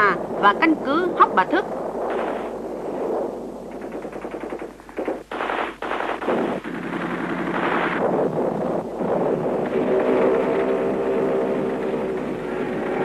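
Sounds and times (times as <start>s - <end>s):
machine-gun fire: 1.8s - 13.0s.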